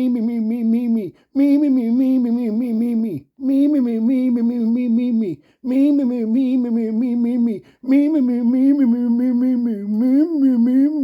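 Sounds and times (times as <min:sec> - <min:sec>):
voice chanting syllables rapidly: 0:00.0 - 0:11.0.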